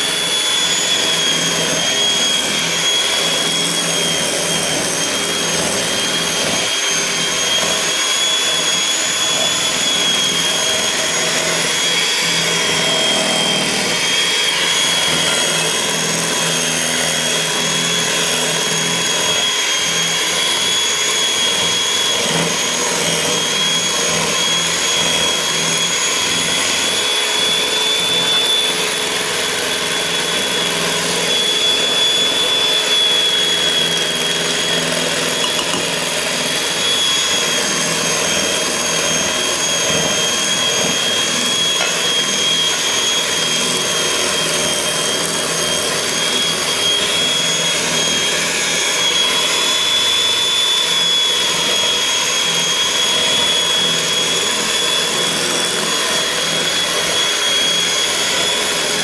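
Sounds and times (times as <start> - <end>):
electric mixer whining: 0.0 - 59.0.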